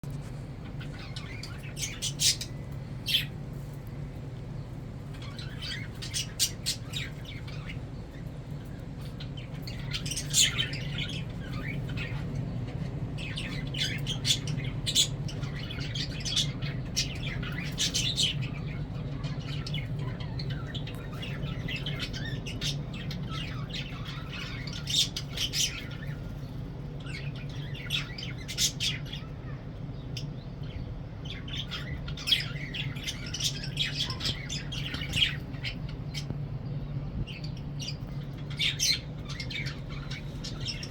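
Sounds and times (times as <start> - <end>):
lovebirds chirping and squawking: 0.0 - 40.9
steady low hum: 0.0 - 40.9.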